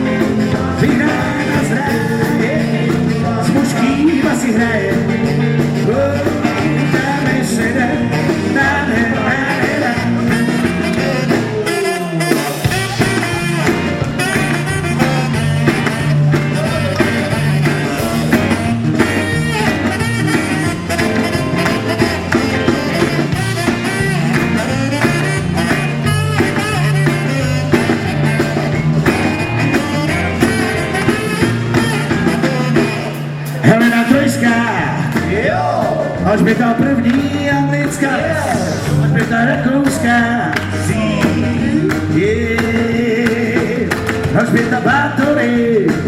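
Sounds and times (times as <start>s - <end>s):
bouncing bass line: 0.0s - 11.6s, 12.6s - 46.0s
live rock band playing: 0.0s - 46.0s.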